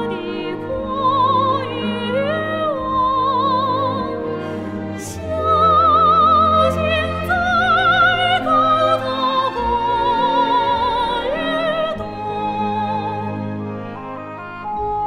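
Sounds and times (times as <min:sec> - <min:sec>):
woman singing operatic soprano: 0:00.0 - 0:13.5
instrumental accompaniment: 0:00.0 - 0:15.0.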